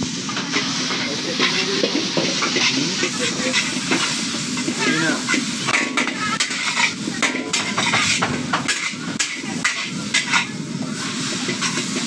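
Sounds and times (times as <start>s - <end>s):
frying hiss: 0.0s - 12.0s.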